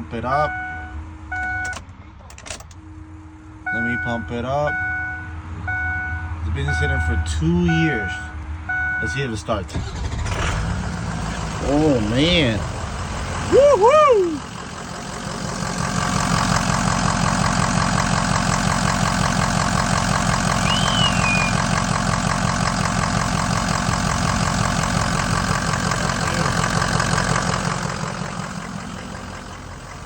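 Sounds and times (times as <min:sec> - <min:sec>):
van engine idling: 0:02.6 - 0:30.0.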